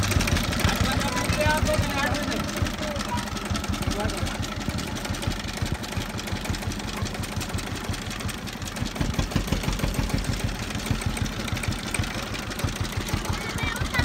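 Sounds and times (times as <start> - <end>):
diesel engine knocking chug: 0.0 - 14.0.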